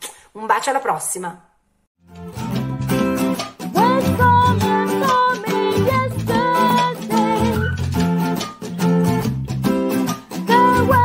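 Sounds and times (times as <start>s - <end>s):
strummed acoustic guitar: 2.0s - 11.0s.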